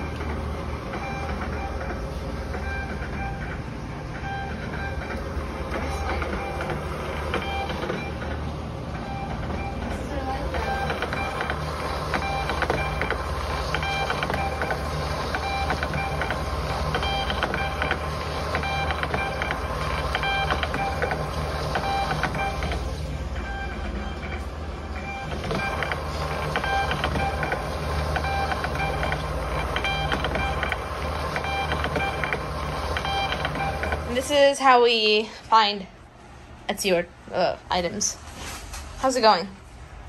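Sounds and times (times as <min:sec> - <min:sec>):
label printer whirring: 0:00.0 - 0:36.6.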